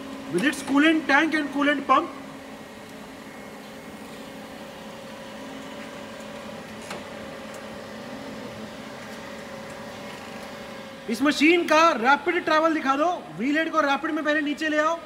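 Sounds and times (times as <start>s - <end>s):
grinder motor humming: 0.0s - 13.5s.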